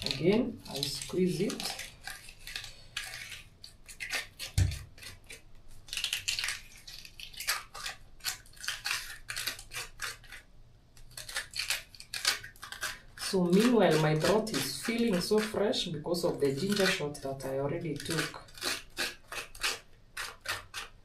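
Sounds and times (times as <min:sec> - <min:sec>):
clicks and scrapes of squeezing: 0:00.0 - 0:21.0.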